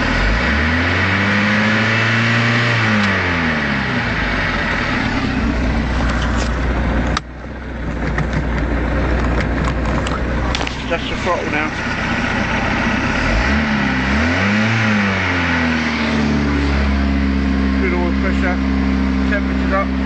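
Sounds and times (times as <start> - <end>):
boat engine revving and idling: 0.0 - 20.0.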